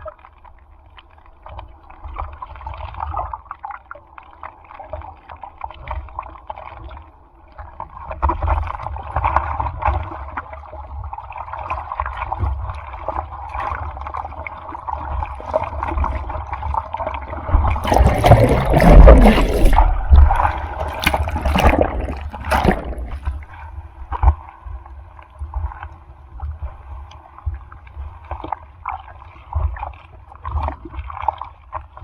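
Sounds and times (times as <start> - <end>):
sea water sloshing and splashing: 0.1 - 32.0.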